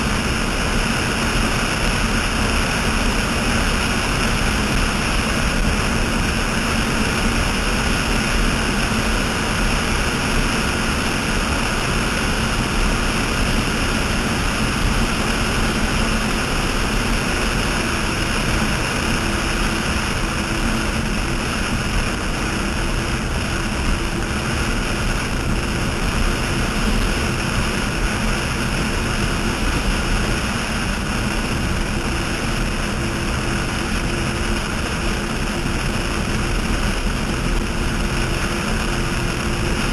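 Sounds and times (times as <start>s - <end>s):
boat engines droning: 0.0s - 39.9s
rush of wind and spray: 0.0s - 39.9s.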